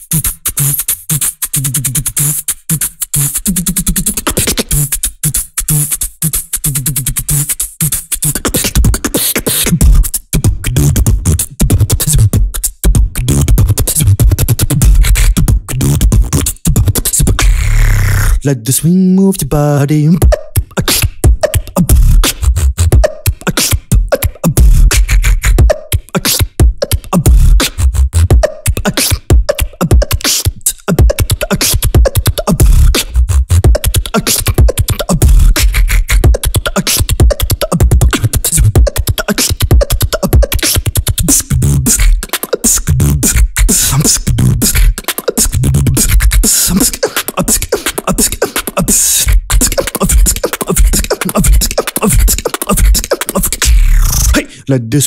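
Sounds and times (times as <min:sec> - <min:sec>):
beatboxing: 0:00.0 - 0:55.0.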